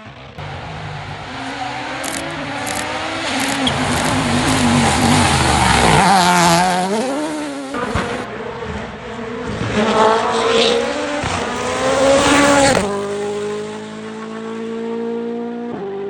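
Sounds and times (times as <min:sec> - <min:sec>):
rally car engine at full throttle: 0:00.0 - 0:16.0.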